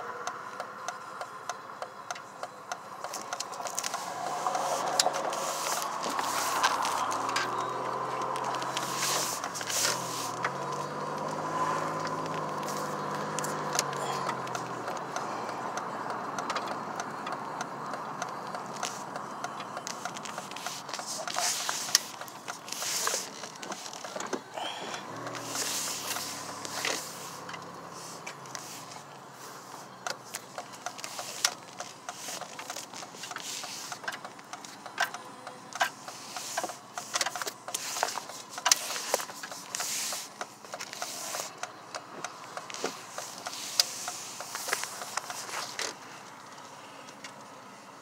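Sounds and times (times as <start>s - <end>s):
road noise inside car: 0.0s - 48.0s
phone being handled: 3.0s - 15.1s, 18.3s - 29.2s, 29.9s - 46.5s.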